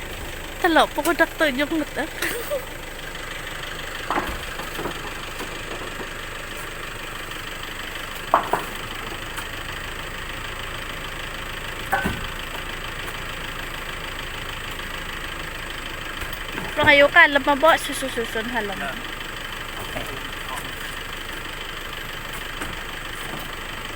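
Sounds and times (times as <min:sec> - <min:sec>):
engine running: 0:00.0 - 0:23.9.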